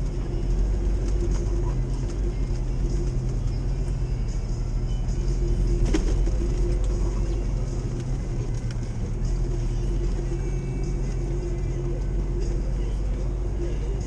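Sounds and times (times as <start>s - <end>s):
engine and road noise drone: 0.0s - 14.0s.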